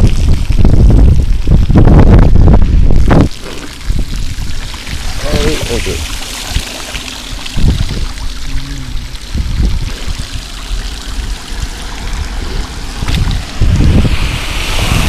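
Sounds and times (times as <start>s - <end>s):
bicycle tyres swishing through water: 0.0s - 15.0s
water splashing and running: 0.0s - 15.0s.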